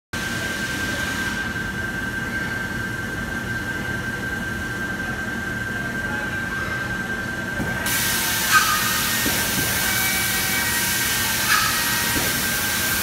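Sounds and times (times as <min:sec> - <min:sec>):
industrial machinery whine: 0:00.2 - 0:13.0
low machinery hum: 0:00.2 - 0:13.0.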